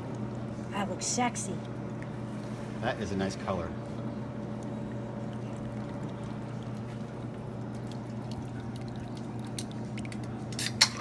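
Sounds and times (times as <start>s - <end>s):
liquid trickling and dripping: 0.0s - 10.8s
steady low hum: 0.0s - 11.0s.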